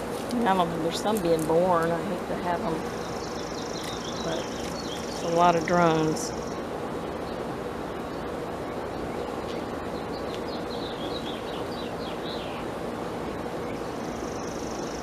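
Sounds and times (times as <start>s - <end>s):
bird chirping: 0.0s - 15.0s
honeybees humming: 0.0s - 15.0s.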